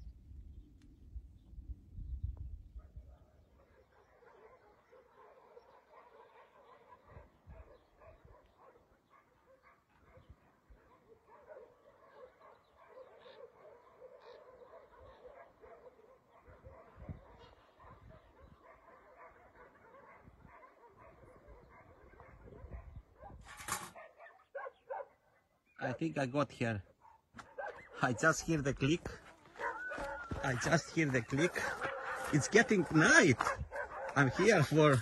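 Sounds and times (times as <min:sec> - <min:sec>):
distant dogs barking: 0:02.6 - 0:35.0.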